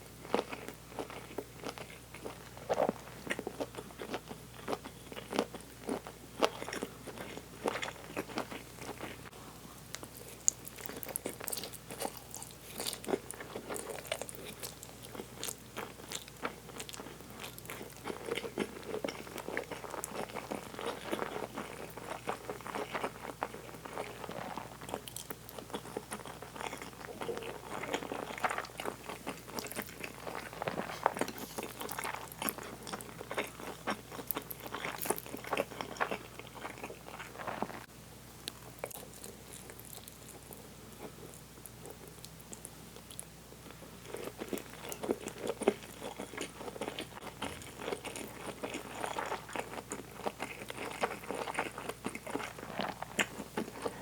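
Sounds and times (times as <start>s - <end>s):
person chewing with mouth smacks: 0.3s - 54.0s.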